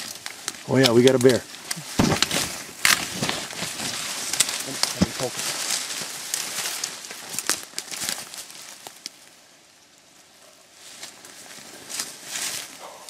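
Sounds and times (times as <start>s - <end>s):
dry leaves rustling: 0.0s - 13.0s.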